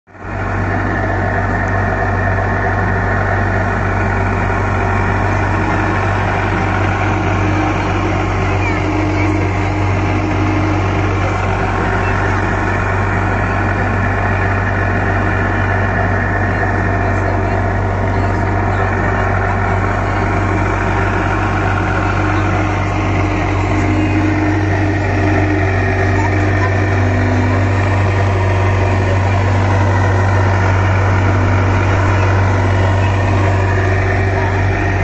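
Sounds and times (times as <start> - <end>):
motorboat engine humming: 0.0 - 35.0.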